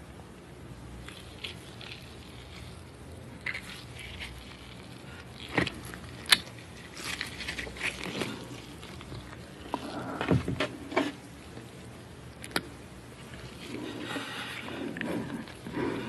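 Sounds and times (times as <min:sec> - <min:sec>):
wet crackles and clicks: 0:01.0 - 0:14.2.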